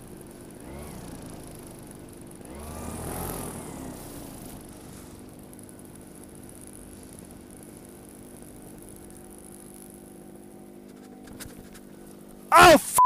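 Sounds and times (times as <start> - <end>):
paramotor engine idling: 0.0 - 12.5.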